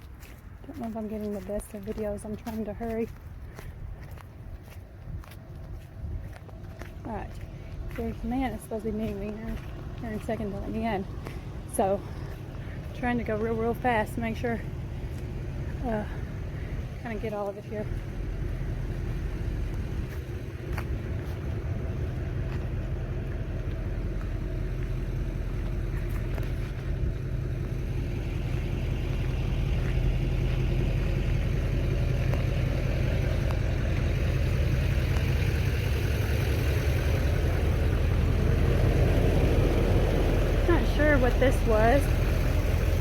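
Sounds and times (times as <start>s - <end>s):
low mechanical engine hum: 0.0s - 43.0s.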